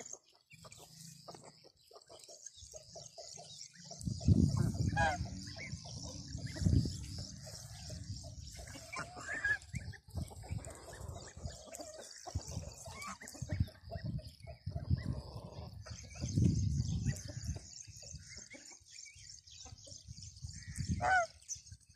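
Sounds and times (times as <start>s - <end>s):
goslings peeping: 0.0s - 21.9s.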